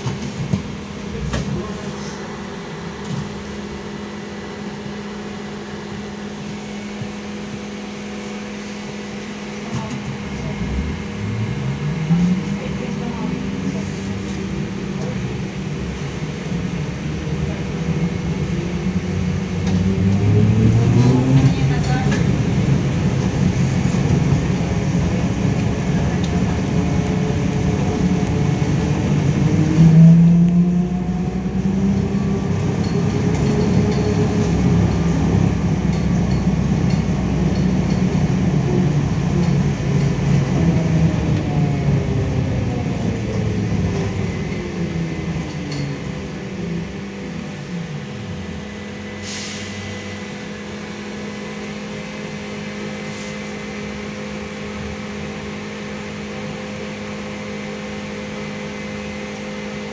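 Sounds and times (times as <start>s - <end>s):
ride rumble: 0.0s - 59.8s
trolleybus motor whining: 0.0s - 59.9s.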